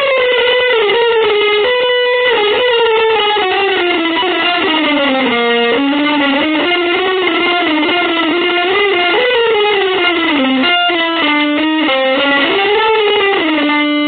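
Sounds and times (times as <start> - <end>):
guitar melody with gliding pitch: 0.0 - 14.0.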